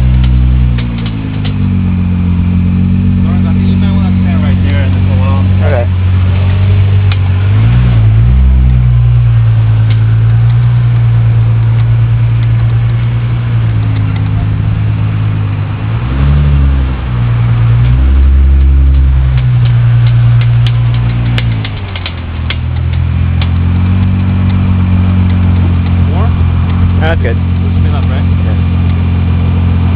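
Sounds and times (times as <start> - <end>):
car engine idling and revving: 0.0 - 29.9.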